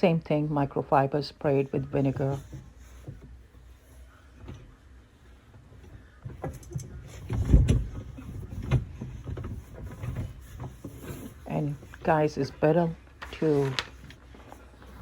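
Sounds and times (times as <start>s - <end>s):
cloth rubbing and knocking: 1.7s - 15.0s.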